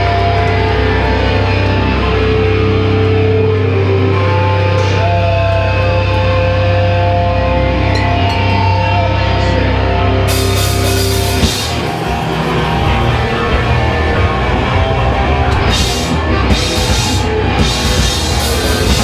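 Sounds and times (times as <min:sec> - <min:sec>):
punk rock band playing live: 0:00.0 - 0:19.0.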